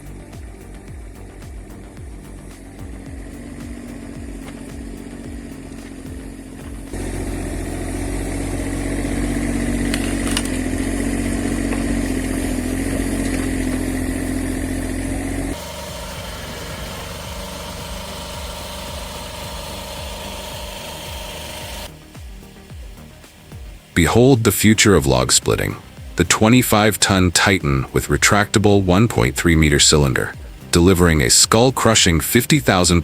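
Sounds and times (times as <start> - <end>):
heavy machinery engine running: 0.0 - 32.2
quieter machine sound: 0.0 - 33.0.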